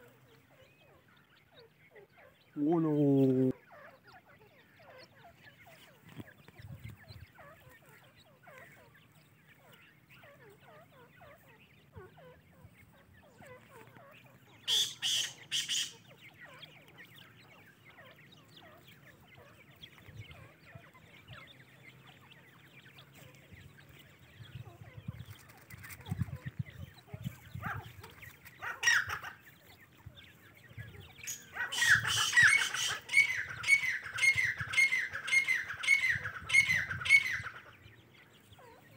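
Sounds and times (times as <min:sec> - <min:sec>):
shrill bird chick calls: 0:00.0 - 0:38.9.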